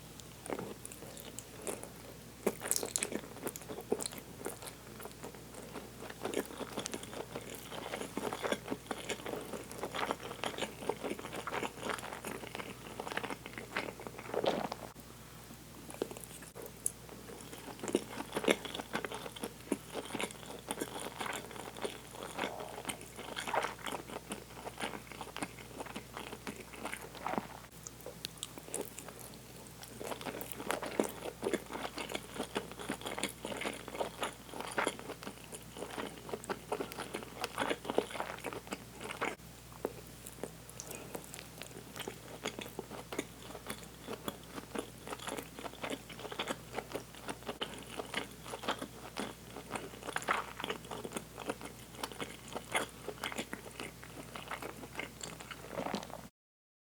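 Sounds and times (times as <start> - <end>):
person chewing food: 0.2 - 15.0, 15.8 - 56.3.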